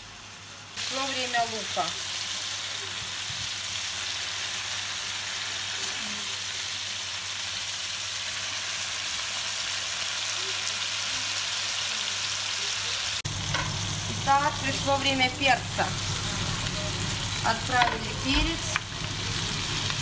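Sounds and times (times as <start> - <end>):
meat sizzling in oil: 0.8 - 20.0.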